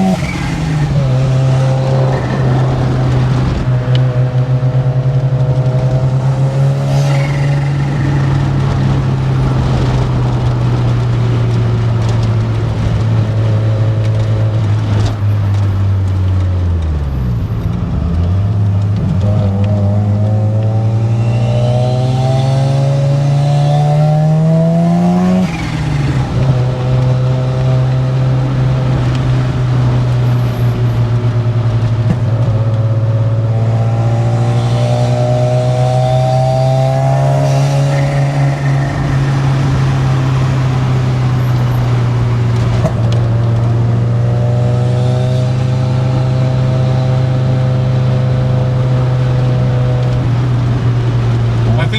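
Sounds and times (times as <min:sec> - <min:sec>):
rotary car engine: 0:00.0 - 0:51.9.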